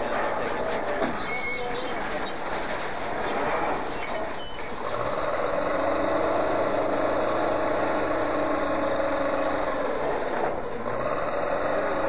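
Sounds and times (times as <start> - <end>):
heavy machinery engine running: 0.0 - 12.0.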